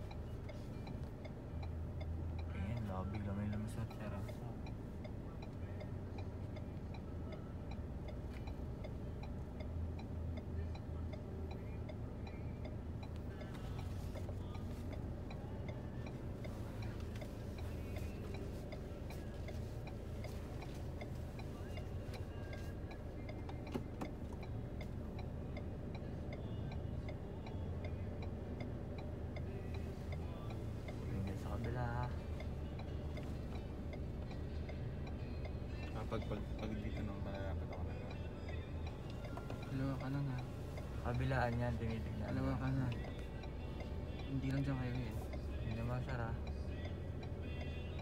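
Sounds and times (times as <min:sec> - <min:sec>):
car indicator clicking: 0:00.0 - 0:48.0
engine idling hum: 0:00.0 - 0:48.0.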